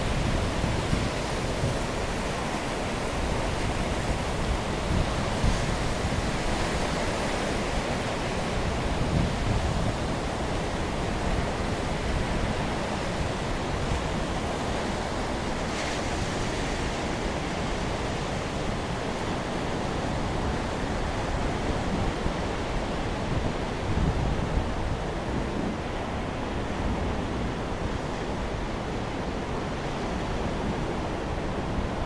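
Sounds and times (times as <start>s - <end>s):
rough sea surf: 0.0s - 32.0s
wind on microphone: 0.0s - 32.0s.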